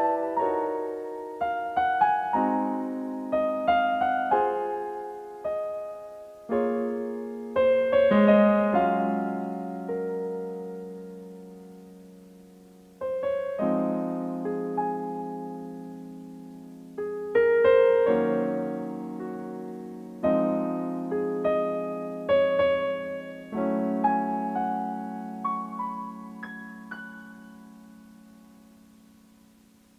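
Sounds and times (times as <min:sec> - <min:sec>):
slow solo piano chords: 0:00.0 - 0:29.9.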